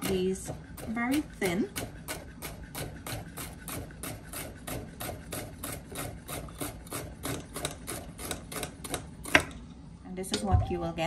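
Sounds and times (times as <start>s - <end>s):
knife chopping on wooden board: 0.0s - 9.5s.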